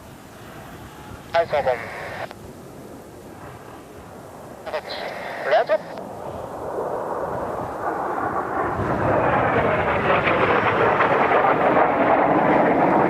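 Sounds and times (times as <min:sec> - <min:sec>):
jet aircraft roar: 0:00.0 - 0:13.0.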